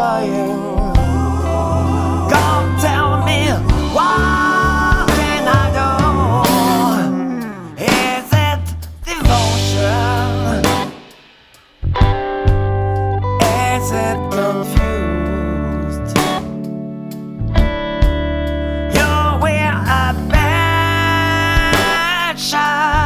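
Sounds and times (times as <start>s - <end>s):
rock song: 0.0s - 23.0s.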